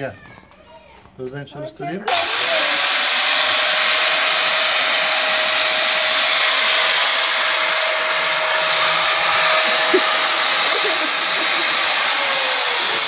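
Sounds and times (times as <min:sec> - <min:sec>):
angle grinder whine: 0:02.1 - 0:13.0
sanding disc on wood: 0:02.1 - 0:13.0.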